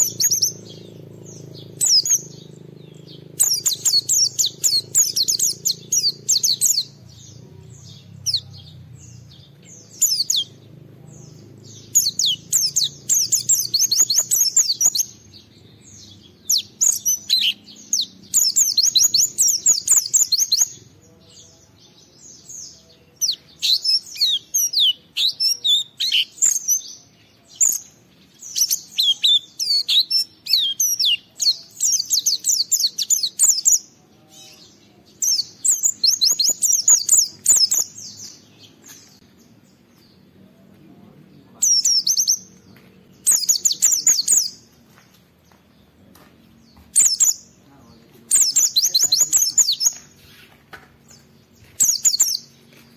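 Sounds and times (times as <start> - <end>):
bird twittering song: 0.0 - 52.9.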